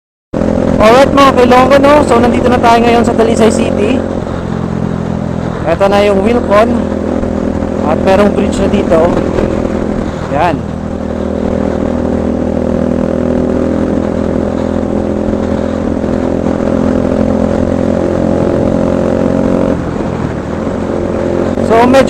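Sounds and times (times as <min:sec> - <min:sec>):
motorcycle engine running: 0:00.4 - 0:22.0
wind noise on microphone: 0:02.8 - 0:21.6.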